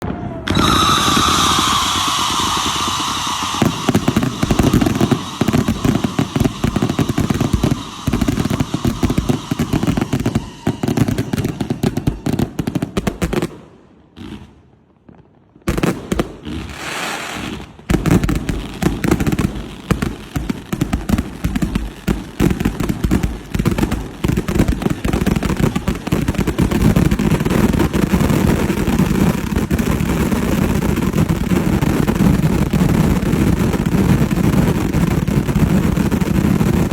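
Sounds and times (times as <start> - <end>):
fireworks exploding and crackling: 0.0 - 36.9.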